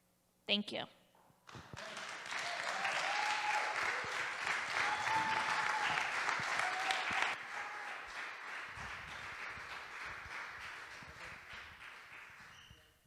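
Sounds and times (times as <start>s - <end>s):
audience applauding: 1.5s - 12.8s.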